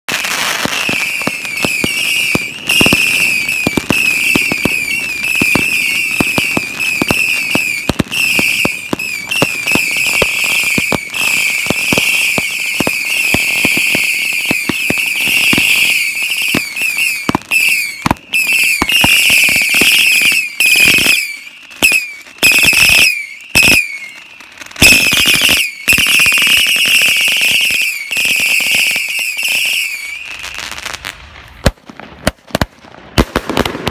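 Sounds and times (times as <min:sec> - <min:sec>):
shrill firework whistling: 0:00.1 - 0:31.2
firework crackles and bangs: 0:00.1 - 0:33.9.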